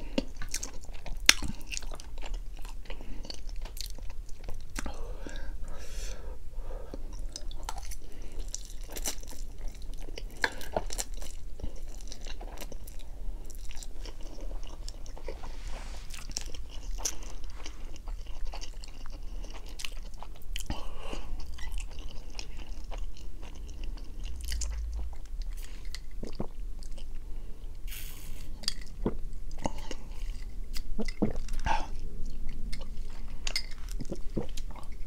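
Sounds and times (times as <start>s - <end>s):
chewing noodles close up: 0.0s - 5.4s, 6.9s - 15.5s, 16.1s - 27.2s, 28.4s - 35.0s.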